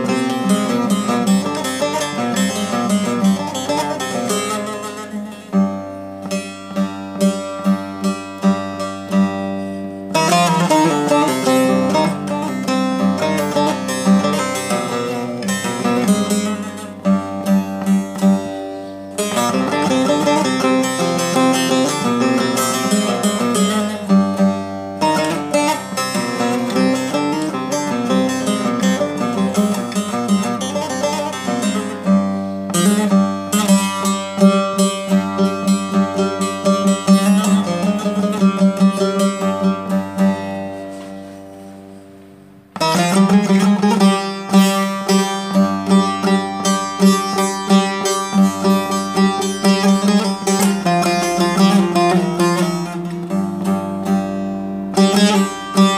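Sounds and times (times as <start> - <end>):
plucked long-necked lute: 0.0 - 55.9.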